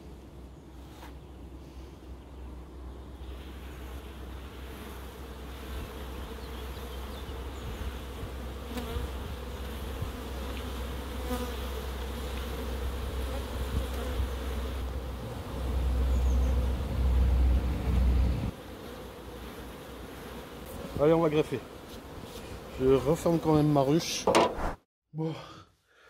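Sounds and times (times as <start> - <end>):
bees buzzing: 2.8 - 24.2
bee brush brushing frame: 3.2 - 24.7.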